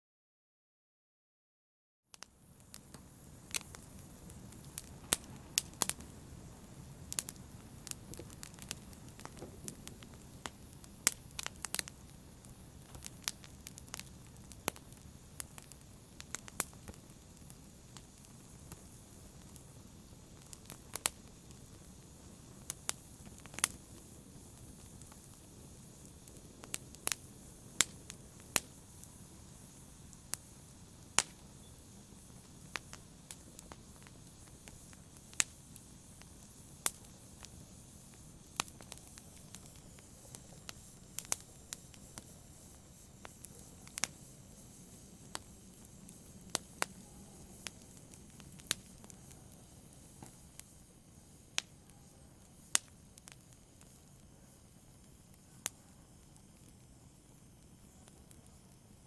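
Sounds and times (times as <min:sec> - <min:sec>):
burning logs crackling and popping: 0:02.2 - 0:59.0
fire flames rushing: 0:02.7 - 0:50.7.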